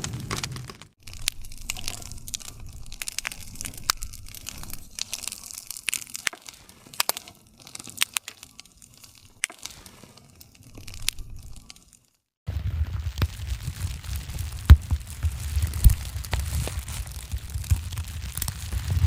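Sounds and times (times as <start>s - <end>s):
low rumble of flames: 0.0s - 11.9s, 12.5s - 19.0s
burning wood popping and snapping: 0.0s - 19.0s.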